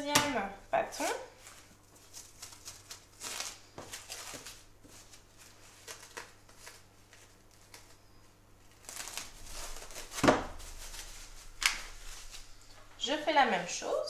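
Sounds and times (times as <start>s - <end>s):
plastic film rustling: 0.0s - 14.0s.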